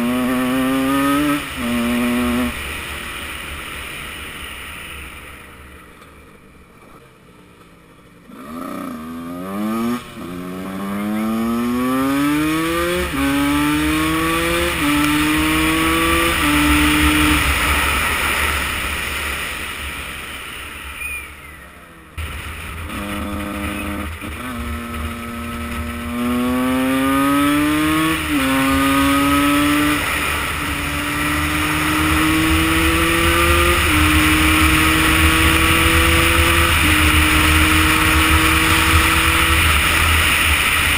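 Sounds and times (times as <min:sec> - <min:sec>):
motorcycle engine accelerating: 0:00.0 - 0:05.5, 0:06.5 - 0:20.9, 0:21.5 - 0:40.9.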